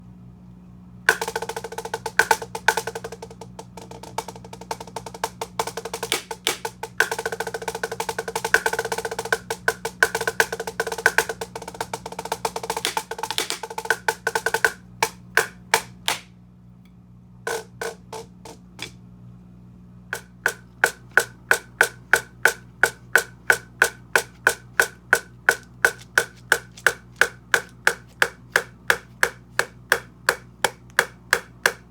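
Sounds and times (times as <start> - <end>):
drumsticks on practice pad: 1.1 - 19.0, 20.2 - 31.9.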